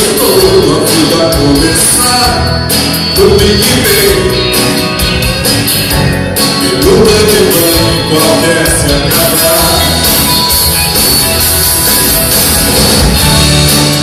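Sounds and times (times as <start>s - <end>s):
live band playing guitars: 0.0s - 14.0s.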